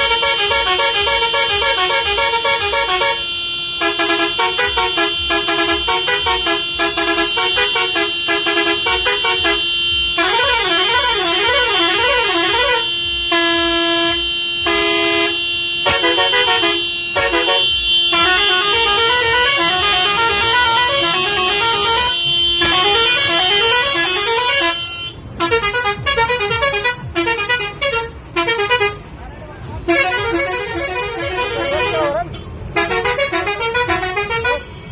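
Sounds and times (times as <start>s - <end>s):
electric musical horn playing tunes: 0.0s - 29.0s, 29.9s - 34.9s.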